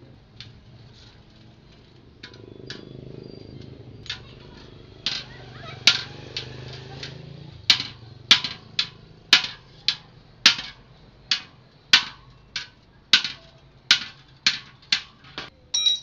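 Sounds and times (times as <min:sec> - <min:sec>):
hammer striking metal: 0:02.2 - 0:16.0.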